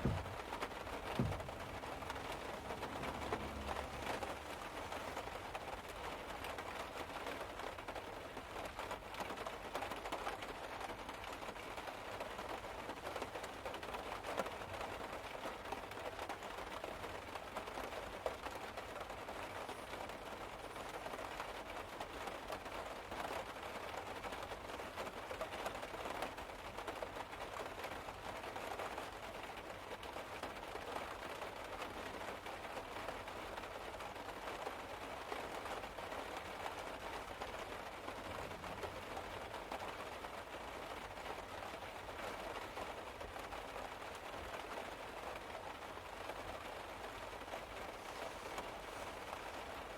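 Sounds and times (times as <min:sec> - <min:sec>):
rain pattering on car roof: 0:00.0 - 0:49.9.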